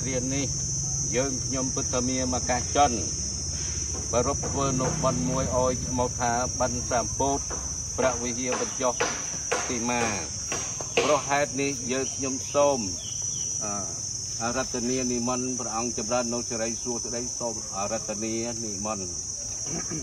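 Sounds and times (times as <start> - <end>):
high-pitched insect chirring: 0.0 - 20.0.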